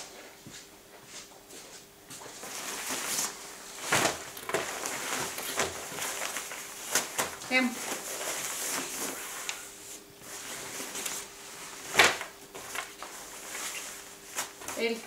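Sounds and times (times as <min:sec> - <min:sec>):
rain jacket rustling: 0:02.3 - 0:15.0.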